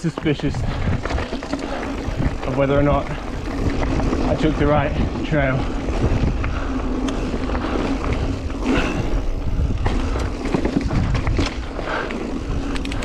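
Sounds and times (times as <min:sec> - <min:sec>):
bike rattles and clicks: 0:00.0 - 0:13.0
wind and tyre rumble: 0:00.0 - 0:13.0.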